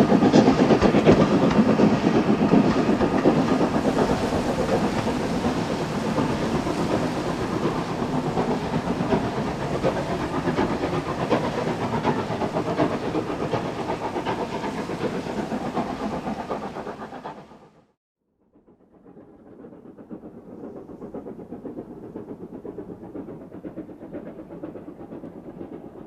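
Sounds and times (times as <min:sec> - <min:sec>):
steam locomotive rush of steam: 0:00.0 - 0:18.0, 0:18.7 - 0:26.0
train running noise: 0:00.0 - 0:18.0, 0:18.7 - 0:26.0.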